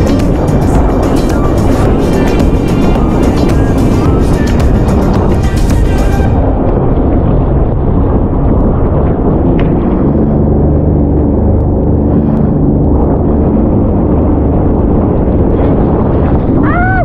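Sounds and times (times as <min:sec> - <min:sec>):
jet ski engine drone: 0:00.0 - 0:16.6.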